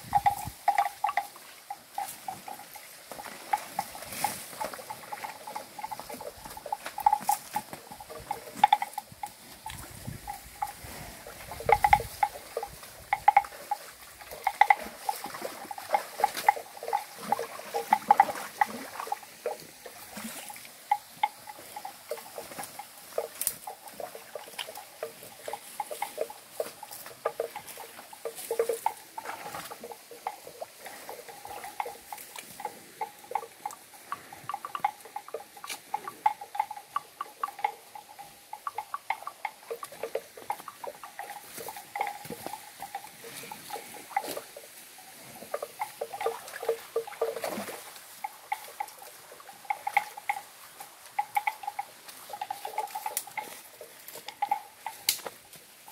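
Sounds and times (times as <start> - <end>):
water buffalo splashing in stream: 0.0 - 55.9.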